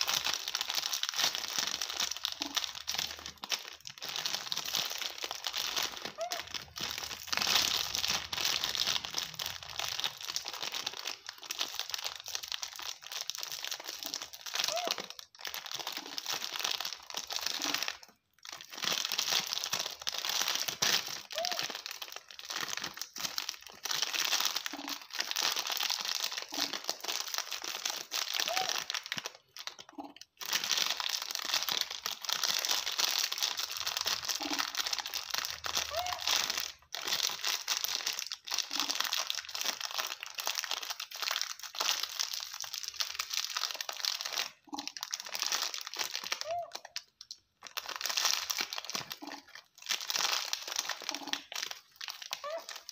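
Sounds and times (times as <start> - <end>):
plastic snack packet rustling: 0.0 - 52.9.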